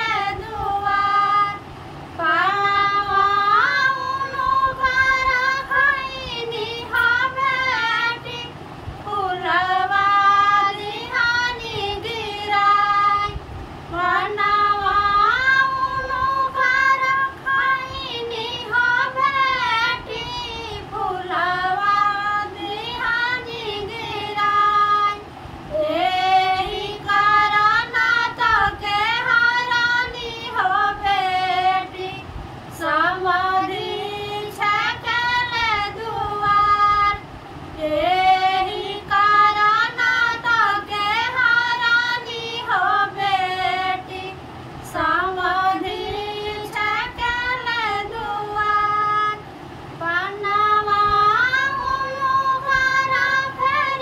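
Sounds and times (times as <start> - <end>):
women singing folk song: 0.0 - 54.0.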